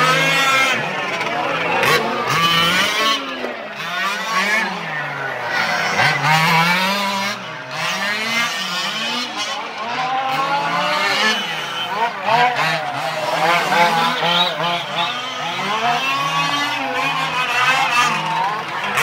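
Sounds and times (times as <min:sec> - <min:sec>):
small two-stroke engines buzzing: 0:00.0 - 0:19.0.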